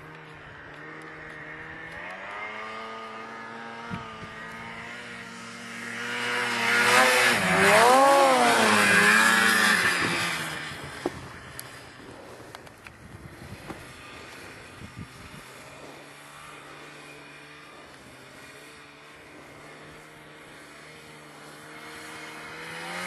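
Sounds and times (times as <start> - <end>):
snowmobile engine revving: 0.0 - 23.0.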